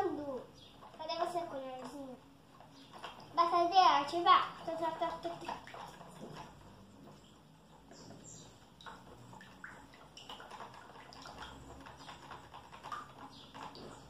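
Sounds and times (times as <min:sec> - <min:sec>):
spoon stirring liquid in tub: 0:02.5 - 0:14.0.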